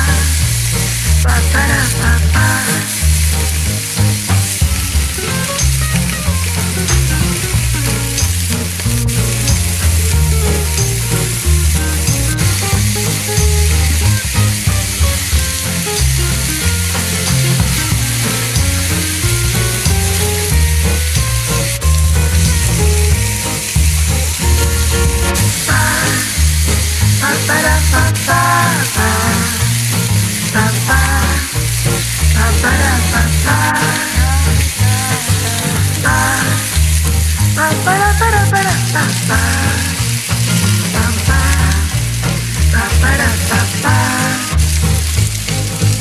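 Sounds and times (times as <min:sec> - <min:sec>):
background music with bass line: 0:00.0 - 0:46.0
skewers sizzling on grill pan: 0:00.0 - 0:46.0.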